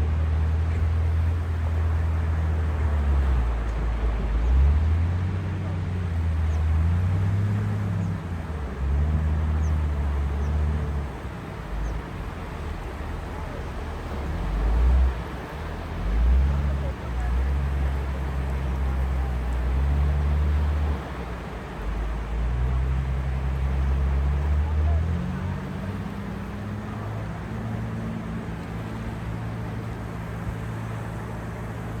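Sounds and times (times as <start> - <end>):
low engine hum: 0.0 - 32.0
sea waves washing on shore: 0.1 - 32.0.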